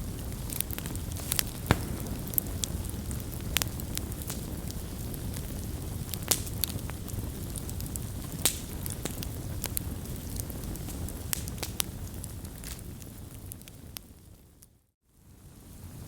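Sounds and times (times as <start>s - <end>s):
campfire crackling and popping: 0.0s - 14.7s
campfire low rumble: 0.0s - 16.0s.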